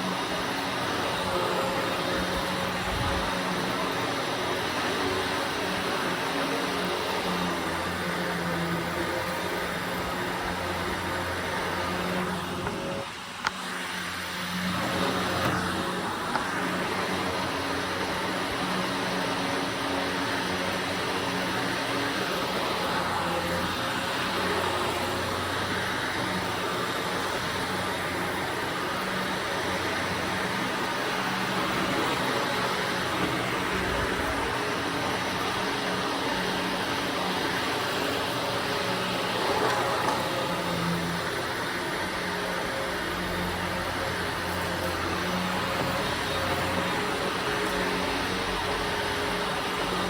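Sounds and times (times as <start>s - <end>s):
carpet cleaning machine running: 0.0s - 50.0s.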